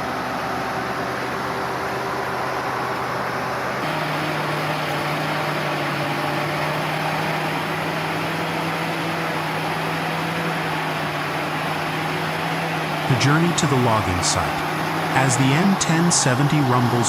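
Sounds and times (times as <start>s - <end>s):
heavy truck engine running: 0.0s - 17.0s.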